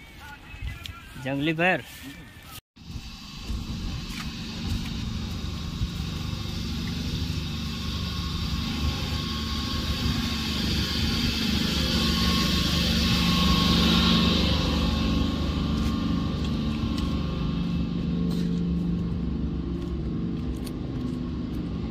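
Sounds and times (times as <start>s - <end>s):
water pump droning: 2.8s - 21.9s.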